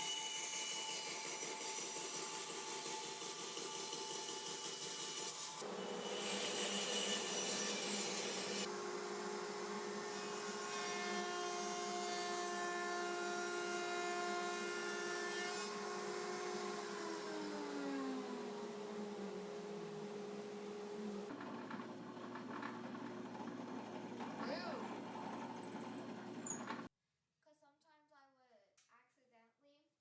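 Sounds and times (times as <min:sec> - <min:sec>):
power saw cutting wood: 0:00.0 - 0:26.9.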